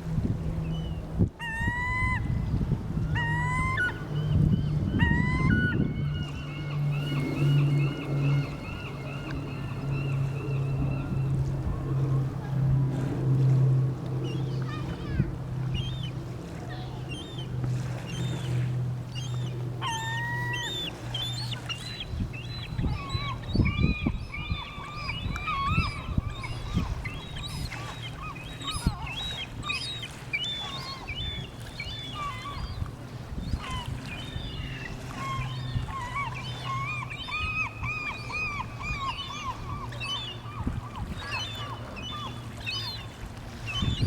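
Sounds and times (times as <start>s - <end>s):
gulls calling: 0.4s - 44.0s.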